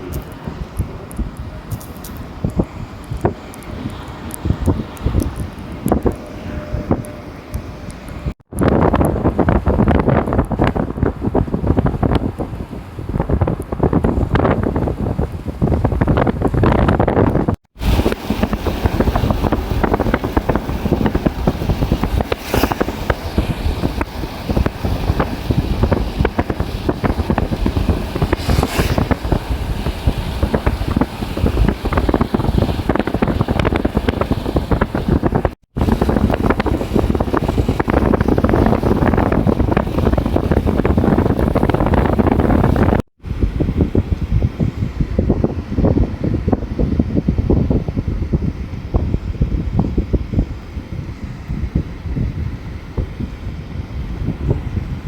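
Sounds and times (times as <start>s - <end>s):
storm wind buffeting microphone: 0.0s - 55.0s.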